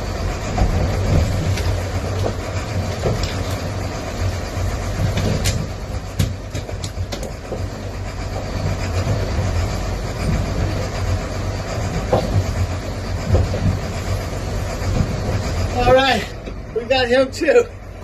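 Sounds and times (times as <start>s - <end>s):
boat engine rumbling: 0.0s - 18.0s
wind: 0.0s - 18.0s.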